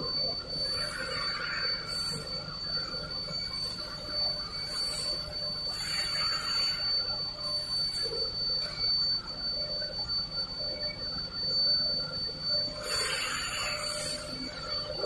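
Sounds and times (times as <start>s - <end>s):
machinery high-pitched whine: 0.0s - 15.0s.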